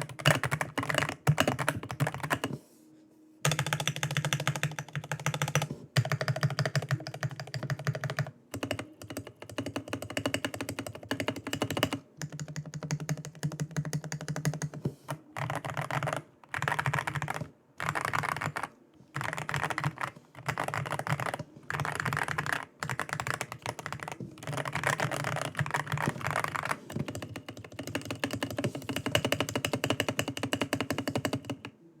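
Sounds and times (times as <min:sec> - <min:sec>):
mechanical keyboard typing: 0:00.0 - 0:02.5, 0:03.5 - 0:31.7.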